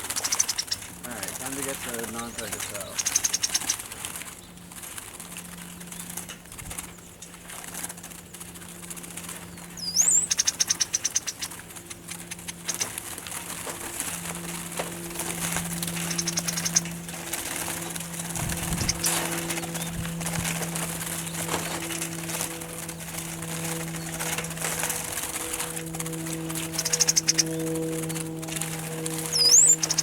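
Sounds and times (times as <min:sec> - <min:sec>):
birds fluttering in a cage: 0:00.0 - 0:30.0
high chattering bird calls: 0:00.0 - 0:30.0
steady low hum: 0:00.0 - 0:30.0.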